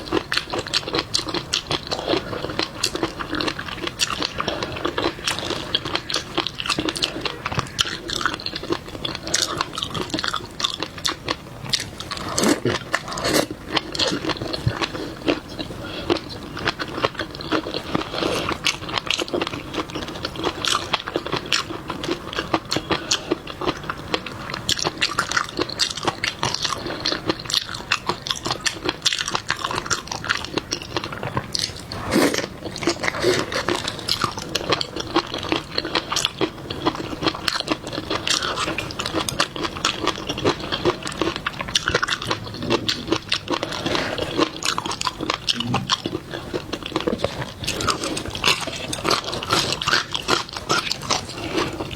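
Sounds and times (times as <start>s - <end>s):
wet chewing: 0.0s - 51.9s
crunchy bites: 0.1s - 51.9s.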